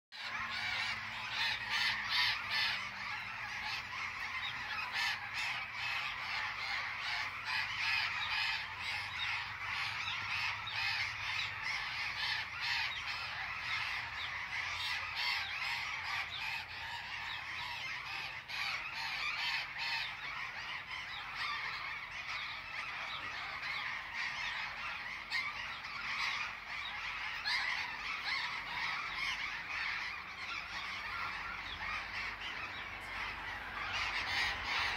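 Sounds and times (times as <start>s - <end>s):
flock of birds chattering: 0.1s - 34.9s.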